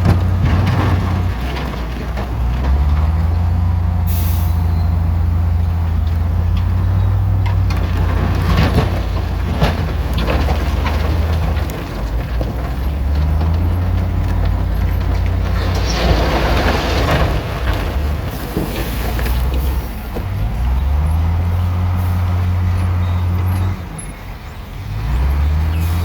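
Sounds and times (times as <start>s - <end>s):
diesel machinery engine drone: 0.0s - 26.0s.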